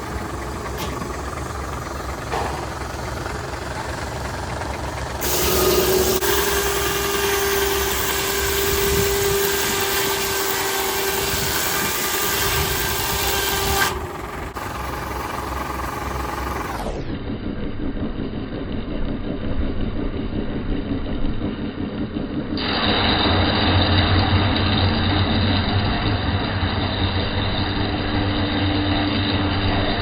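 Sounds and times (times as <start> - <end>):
circular saw blade cutting log: 0.0 - 17.1, 22.6 - 30.0
steam traction engine running: 0.0 - 30.0.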